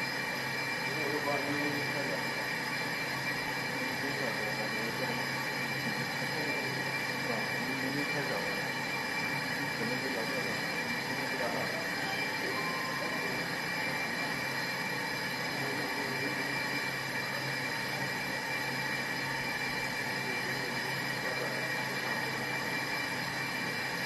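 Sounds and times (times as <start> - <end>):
high machine whine: 0.0 - 24.0
lathe machine drone: 0.0 - 24.0
low machine hum: 0.0 - 24.0.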